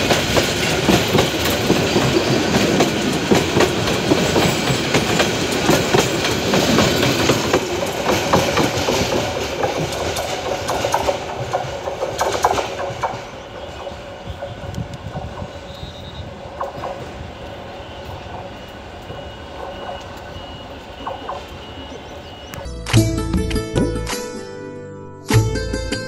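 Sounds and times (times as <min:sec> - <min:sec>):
train wheels clattering over rails: 0:00.0 - 0:22.6.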